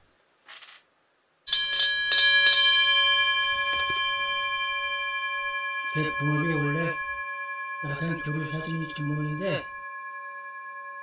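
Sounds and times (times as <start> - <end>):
metal bell struck and ringing: 1.5 - 11.0.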